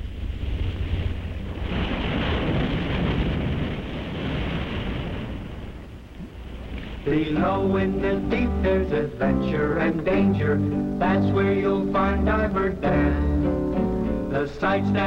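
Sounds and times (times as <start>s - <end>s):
ocean surf crashing: 0.0s - 15.0s.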